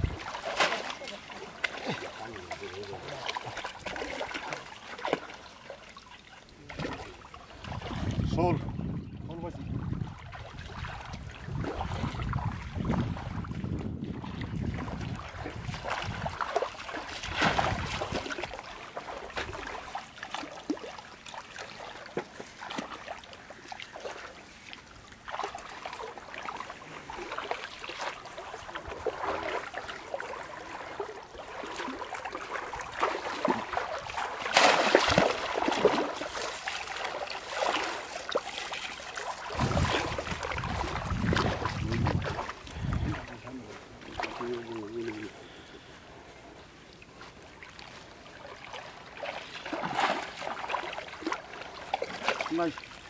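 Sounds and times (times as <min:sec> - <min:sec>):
water sloshing and splashing: 0:00.0 - 0:53.0.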